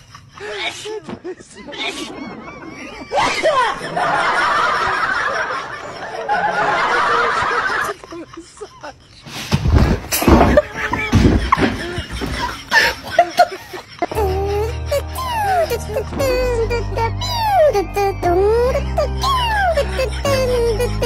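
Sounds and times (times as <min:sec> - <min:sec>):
person laughing hard: 0:00.0 - 0:09.3, 0:10.2 - 0:17.6, 0:18.8 - 0:21.0.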